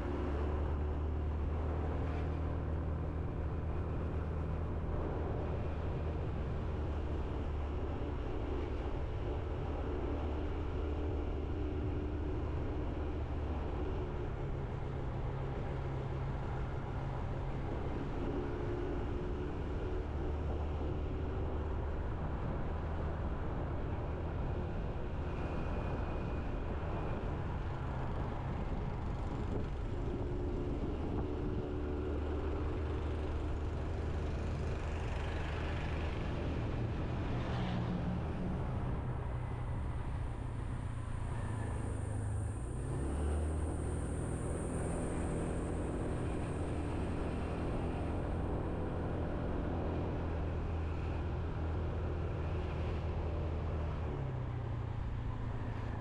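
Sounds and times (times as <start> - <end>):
road noise: 0.0 - 56.0
wind: 0.0 - 56.0.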